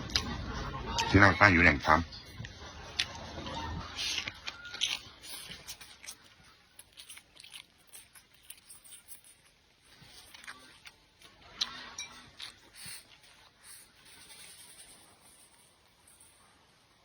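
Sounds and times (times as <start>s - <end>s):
person chewing food: 0.0s - 1.2s, 2.1s - 17.0s.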